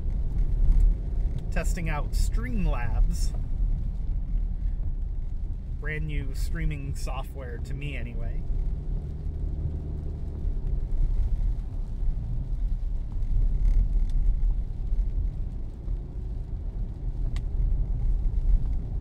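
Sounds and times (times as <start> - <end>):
car road rumble: 0.0 - 19.0.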